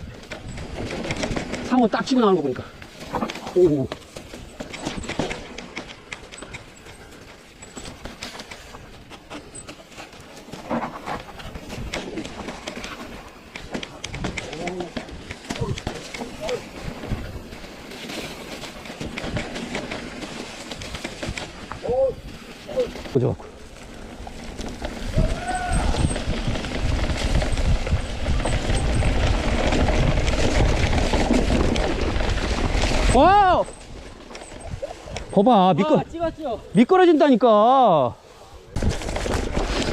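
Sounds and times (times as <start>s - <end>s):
mountain bike clattering: 0.0s - 38.1s, 38.8s - 39.9s
bicycle tyre noise on trail: 0.0s - 39.9s.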